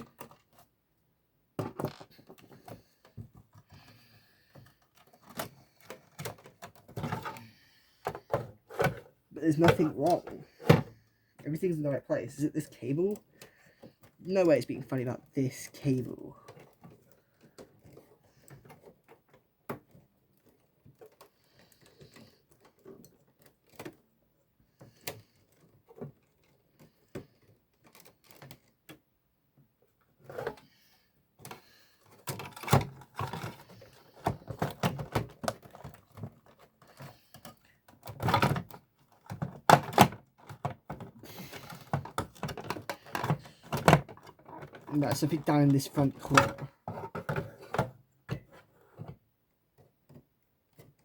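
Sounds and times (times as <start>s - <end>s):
plastic and metal parts clattering: 0.0s - 0.7s, 1.6s - 29.0s, 29.8s - 51.0s.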